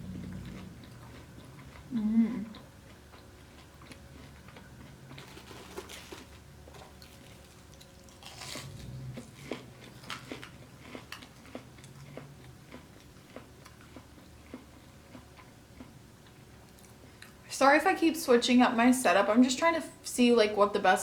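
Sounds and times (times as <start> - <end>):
chewing crunchy food: 0.0 - 17.5.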